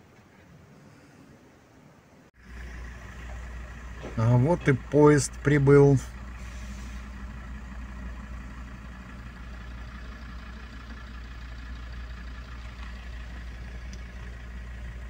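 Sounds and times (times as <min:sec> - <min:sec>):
car engine idling: 0:02.4 - 0:15.0.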